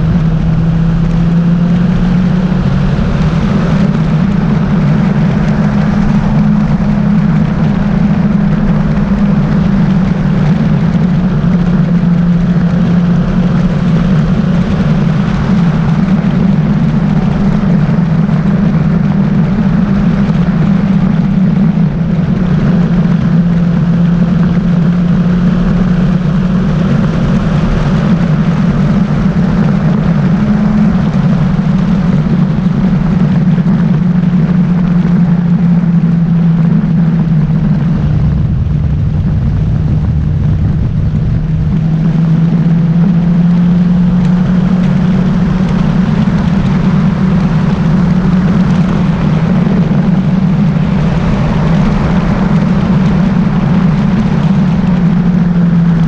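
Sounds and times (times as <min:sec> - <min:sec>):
motorcycle engine running: 0:00.0 - 0:56.0
wind noise: 0:00.0 - 0:56.0.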